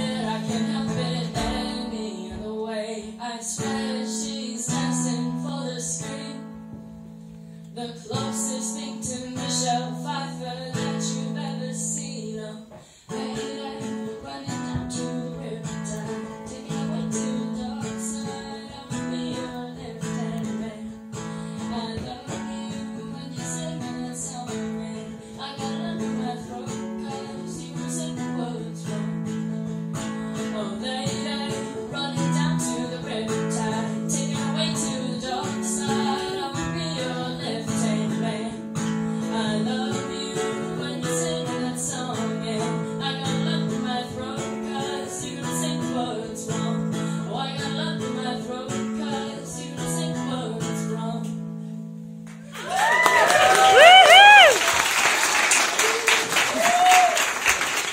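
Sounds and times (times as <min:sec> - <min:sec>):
woman singing: 0:00.0 - 0:51.5, 0:52.6 - 0:54.7
strummed acoustic string instrument: 0:00.0 - 0:52.4.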